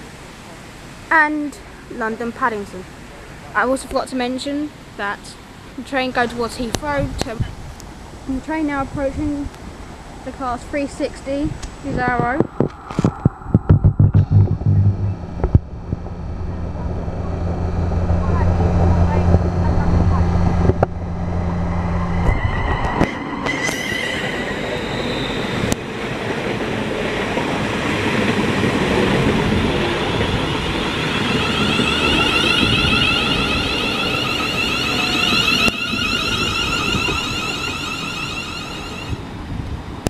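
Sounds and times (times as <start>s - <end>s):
high warbling train whines: 0.0s - 40.0s
train wheels rumbling on rail: 5.8s - 40.0s.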